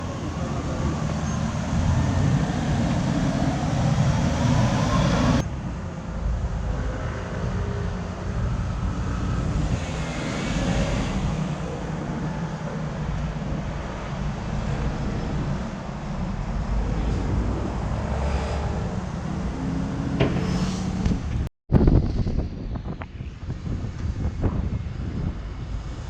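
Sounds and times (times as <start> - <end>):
diesel bus engine rumble: 0.0 - 26.0
street and road noise: 0.0 - 26.0.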